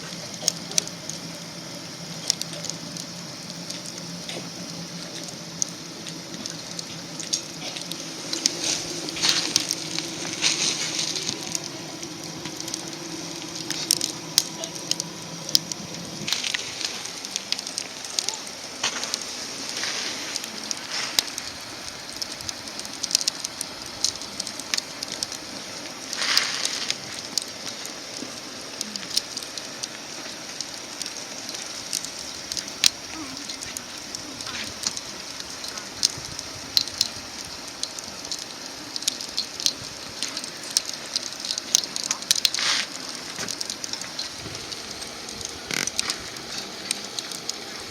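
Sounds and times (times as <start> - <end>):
fire hissing: 0.0 - 47.9
wood fire crackling and popping: 0.0 - 47.9.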